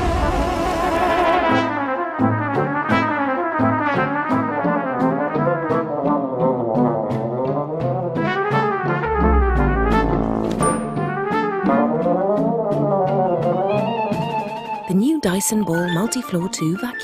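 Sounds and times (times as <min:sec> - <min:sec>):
brass-led music with walking bass: 0:01.1 - 0:14.9.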